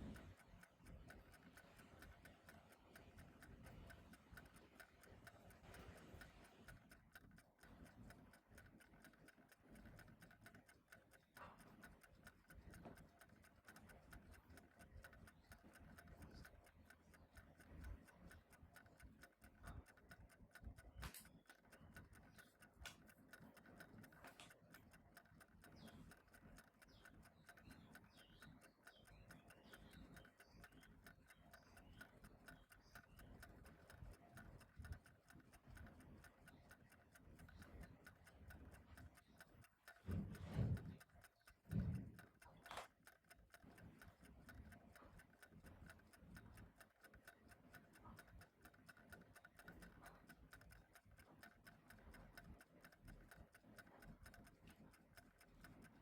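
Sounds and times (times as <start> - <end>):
click: 0.0 - 56.0
faint clock ticking: 0.0 - 56.0.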